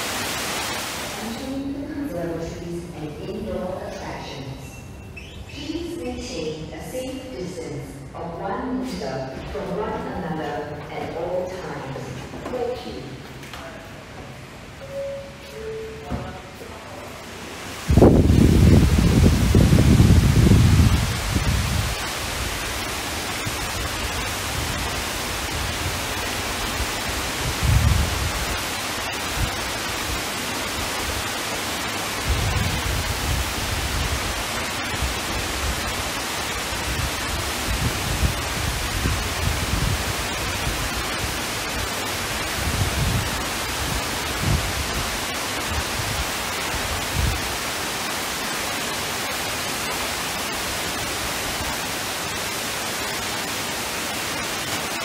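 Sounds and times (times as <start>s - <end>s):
indoor waterfall rushing: 0.0s - 4.9s, 8.4s - 55.0s.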